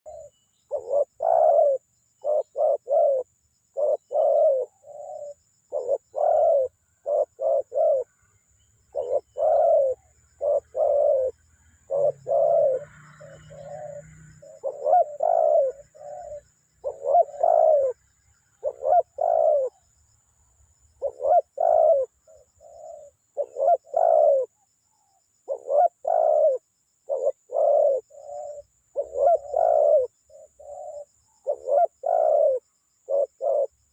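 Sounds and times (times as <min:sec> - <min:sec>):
dove cooing: 0:00.0 - 0:08.2, 0:08.9 - 0:19.9, 0:21.0 - 0:33.9.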